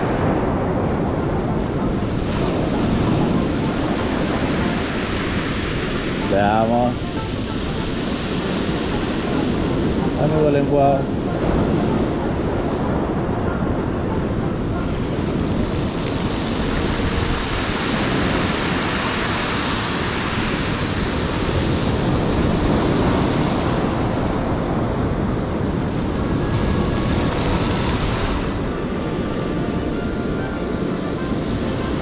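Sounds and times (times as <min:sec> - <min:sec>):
ocean surf washing up beach: 0:00.0 - 0:32.0
wind on microphone: 0:00.0 - 0:32.0.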